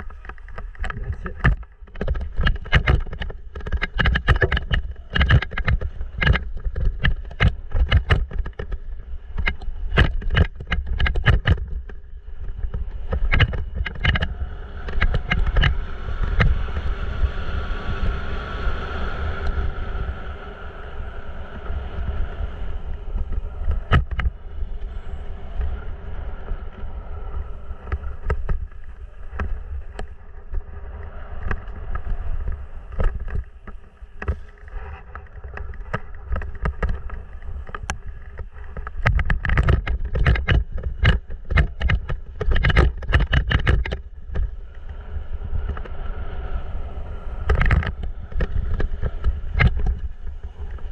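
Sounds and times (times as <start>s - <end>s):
bike knocks and rattles over bumps: 0.0s - 18.2s, 22.8s - 26.9s, 27.6s - 46.0s, 47.4s - 50.9s
rumble of tyres on dirt: 0.0s - 50.9s
wind: 0.0s - 50.9s.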